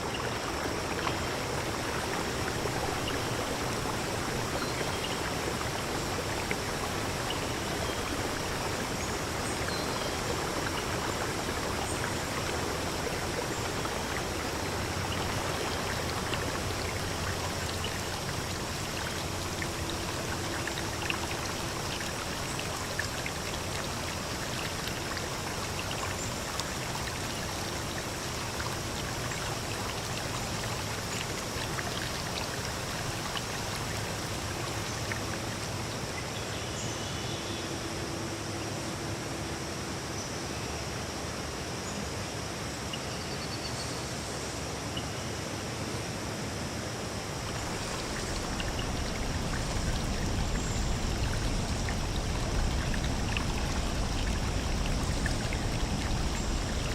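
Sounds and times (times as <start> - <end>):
stream flowing: 0.0 - 43.0, 43.9 - 56.9.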